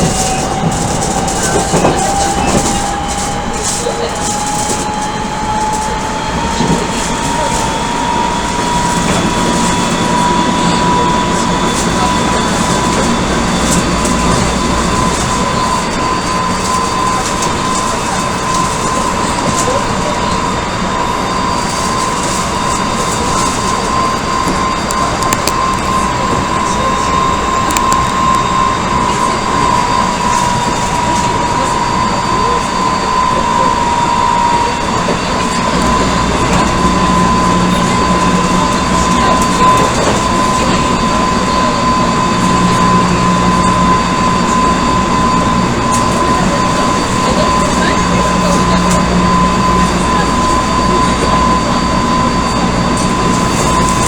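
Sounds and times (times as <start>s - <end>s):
electric train running: 0.0s - 54.0s
high steady whine: 0.0s - 54.0s.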